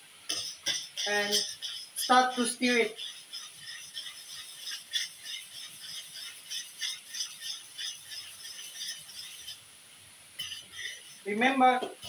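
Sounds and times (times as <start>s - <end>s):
utensil scraping metal pan: 0.3s - 9.6s, 10.4s - 12.0s.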